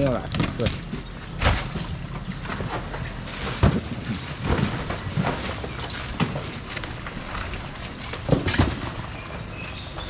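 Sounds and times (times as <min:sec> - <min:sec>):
busy market noise: 0:00.0 - 0:10.0
knocks and clatter: 0:00.0 - 0:10.0.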